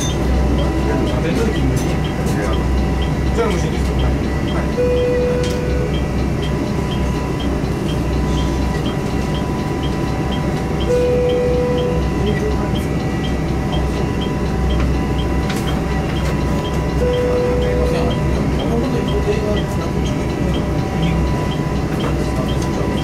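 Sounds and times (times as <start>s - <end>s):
railcar low rumble: 0.0s - 23.0s.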